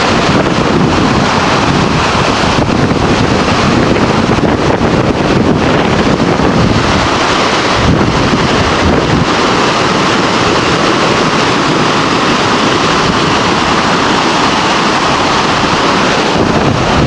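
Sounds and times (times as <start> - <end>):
sea water rushing along bow: 0.0 - 17.0
wind buffeting microphone: 0.0 - 17.0.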